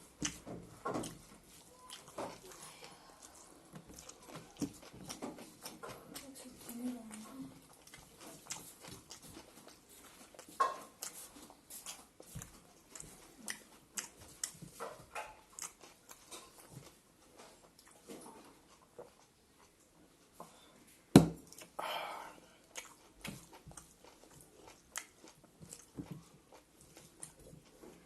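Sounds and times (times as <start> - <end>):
chewing and mouth smacks: 0.1 - 20.5, 21.4 - 21.8, 22.6 - 28.0.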